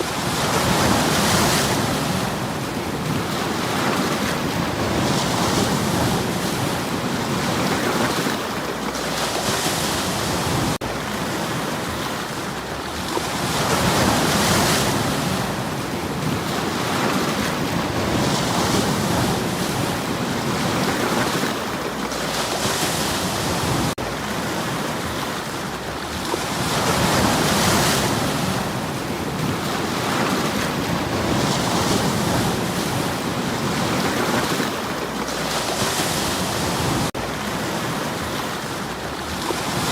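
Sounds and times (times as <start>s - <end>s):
waves on stony shore: 0.0s - 39.9s.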